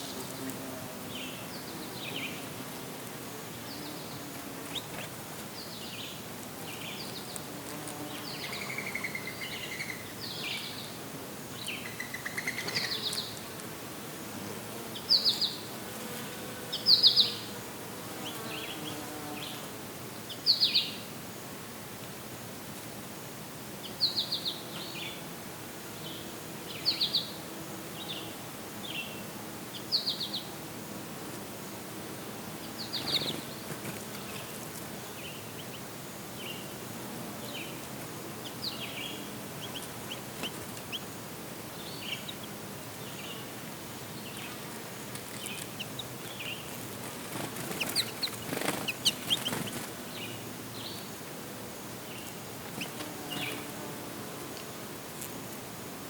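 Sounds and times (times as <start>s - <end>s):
songbirds chirping: 0.0s - 13.7s, 14.8s - 21.1s, 23.8s - 25.3s, 25.9s - 30.6s, 32.1s - 54.7s.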